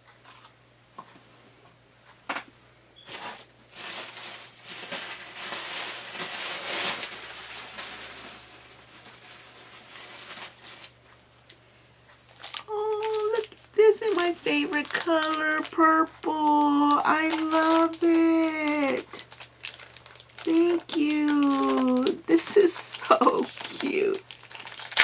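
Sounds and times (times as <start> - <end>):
packaging rustling and crinkling: 3.0 - 11.1, 12.3 - 25.0.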